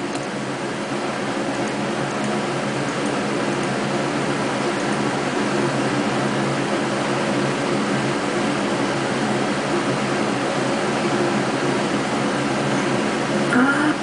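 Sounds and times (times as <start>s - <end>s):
steady hum with hiss: 0.0s - 14.0s.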